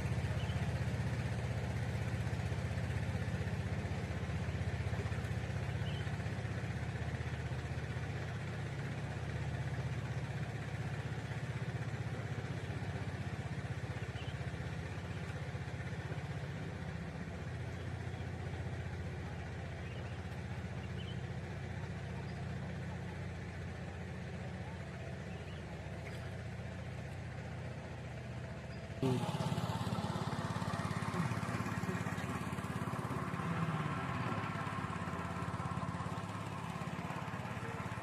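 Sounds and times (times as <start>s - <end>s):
small engine running steadily: 0.0s - 38.0s.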